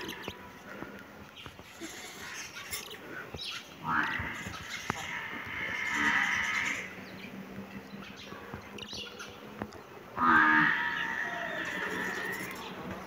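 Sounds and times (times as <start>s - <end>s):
budgerigars chattering and warbling: 1.4s - 7.3s, 7.9s - 13.0s.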